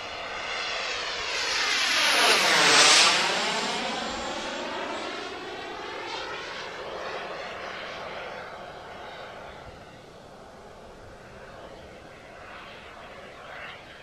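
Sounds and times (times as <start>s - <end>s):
model jet flying past: 0.0s - 14.0s.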